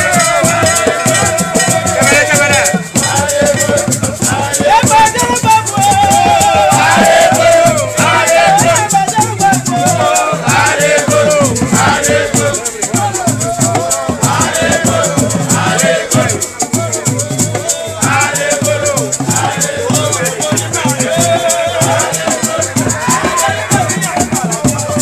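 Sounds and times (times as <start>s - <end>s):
low drum beat: 0.0s - 25.0s
rattles shaken: 0.0s - 25.0s
voices singing: 0.0s - 25.0s.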